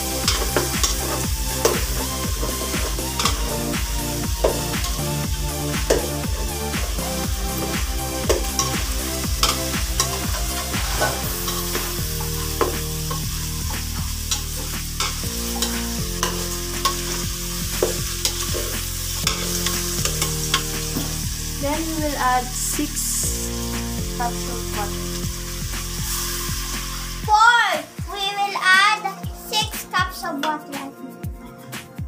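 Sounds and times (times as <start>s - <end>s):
food sizzling: 0.0s - 31.0s.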